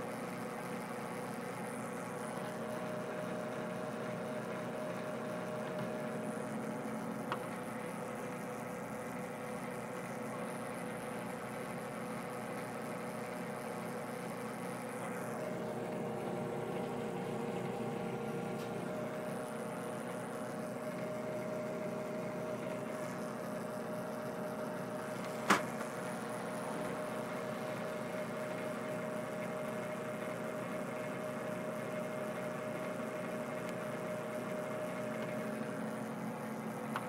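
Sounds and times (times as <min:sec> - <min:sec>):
metal lathe humming: 0:00.0 - 0:11.6, 0:12.6 - 0:37.0.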